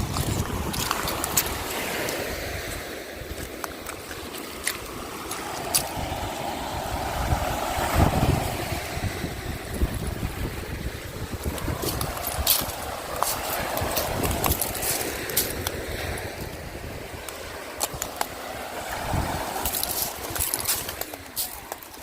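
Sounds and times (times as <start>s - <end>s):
waves washing on beach: 0.0s - 22.0s
wind buffeting microphone: 0.0s - 22.0s.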